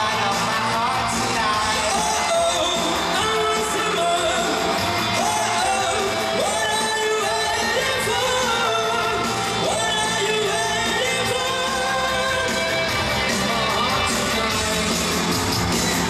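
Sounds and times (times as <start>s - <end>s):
man singing into microphone: 0.0s - 15.4s
amplified band with drums: 0.0s - 16.0s.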